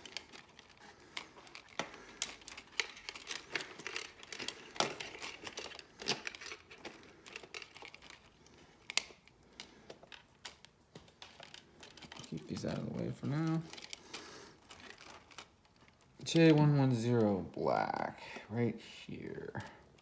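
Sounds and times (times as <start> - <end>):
small clicks and taps: 0.0 - 16.6
hands rustling wires: 0.0 - 20.0.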